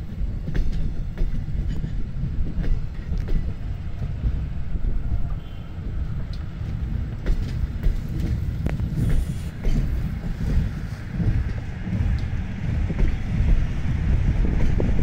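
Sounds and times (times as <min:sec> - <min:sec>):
freight train wagons rolling: 0:00.0 - 0:15.0
wind buffeting microphone: 0:00.0 - 0:15.0.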